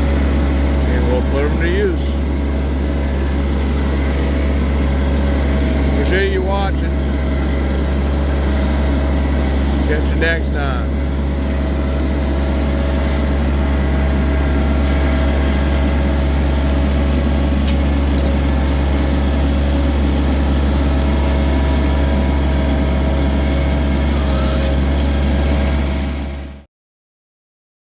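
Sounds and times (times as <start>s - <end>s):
diesel tractor engine running: 0.0s - 26.6s.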